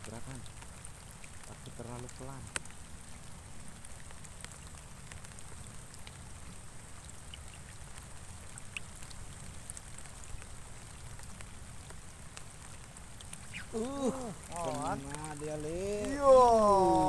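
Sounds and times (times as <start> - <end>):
light rain on water: 0.0 - 17.0.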